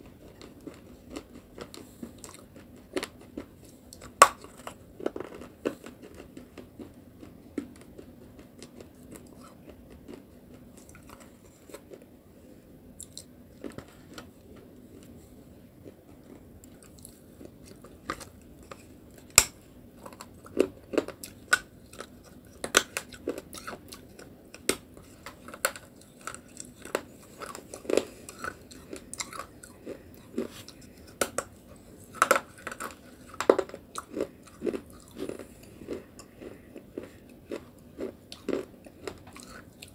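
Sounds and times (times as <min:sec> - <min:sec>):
person chewing with crunches: 0:00.0 - 0:39.9.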